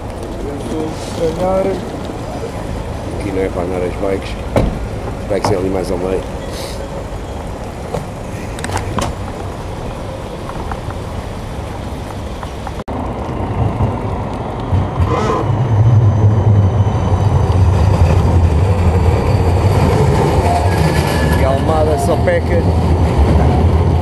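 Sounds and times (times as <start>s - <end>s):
street traffic: 0.0s - 24.0s
wind rumble: 0.0s - 24.0s.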